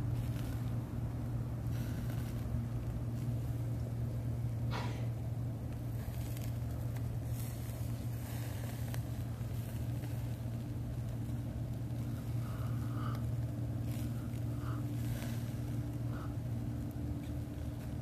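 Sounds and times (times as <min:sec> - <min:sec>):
faint crackles: 0:00.0 - 0:18.0
low mechanical hum: 0:00.0 - 0:18.0.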